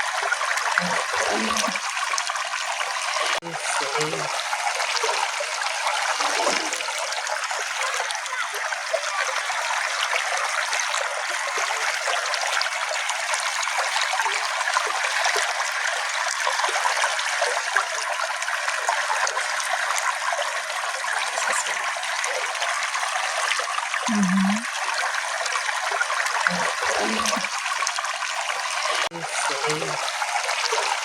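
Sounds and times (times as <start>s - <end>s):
brook trickling and babbling: 0.0s - 31.0s.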